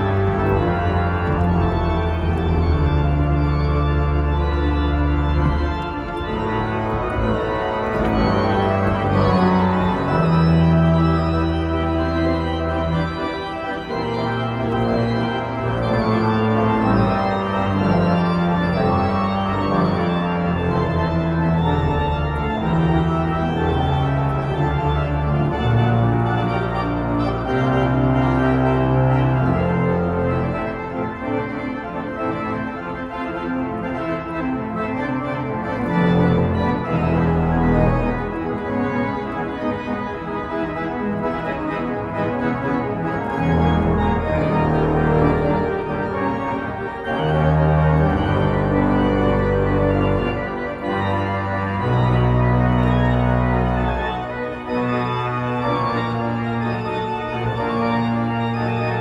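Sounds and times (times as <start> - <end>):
church pipe organ playing: 0.0 - 59.0.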